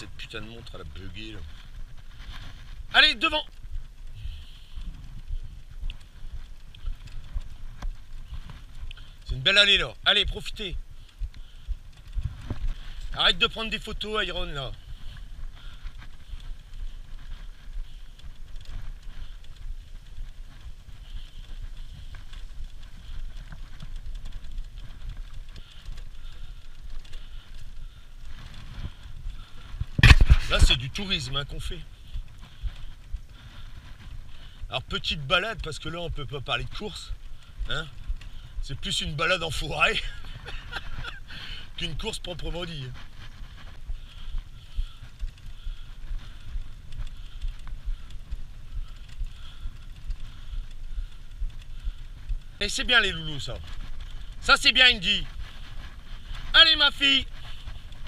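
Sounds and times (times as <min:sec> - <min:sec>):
cart wheels rumbling on dirt: 0:00.0 - 0:58.0.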